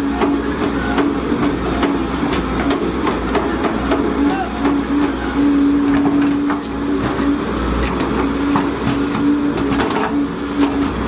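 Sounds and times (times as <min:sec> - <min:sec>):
excavator diesel engine humming: 0:00.0 - 0:11.0.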